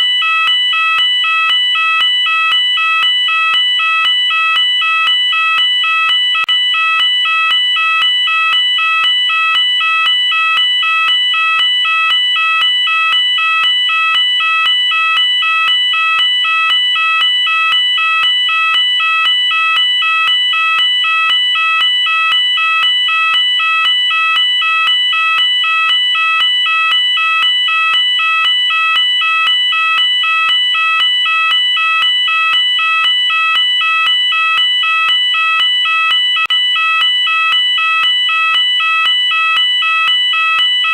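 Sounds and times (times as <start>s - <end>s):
two-tone fire alarm: 0.0s - 40.9s.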